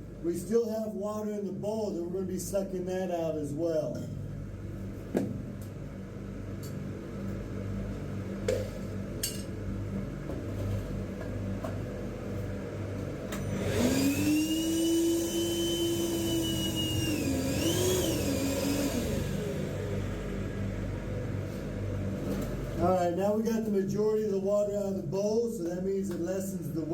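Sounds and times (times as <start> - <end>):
shop vac running: 0.0 - 26.9.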